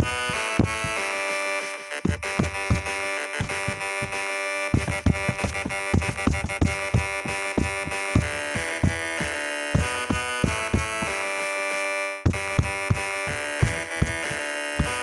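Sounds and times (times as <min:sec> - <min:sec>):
drum beat: 0:00.0 - 0:01.0, 0:02.1 - 0:11.2, 0:12.3 - 0:15.0.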